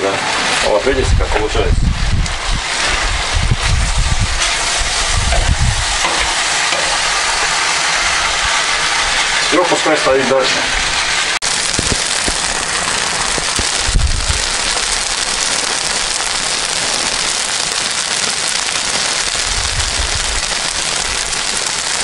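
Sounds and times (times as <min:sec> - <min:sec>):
rice sizzling and crackling: 0:00.0 - 0:22.0.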